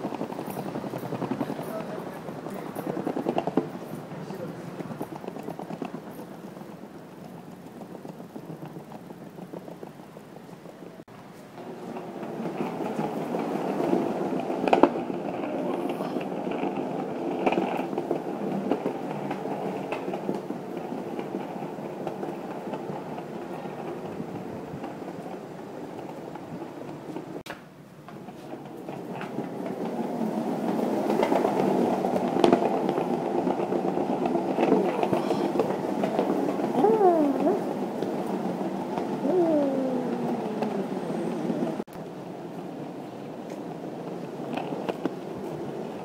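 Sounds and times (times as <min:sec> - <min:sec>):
skateboard wheels rolling on stone: 0:00.0 - 0:46.0.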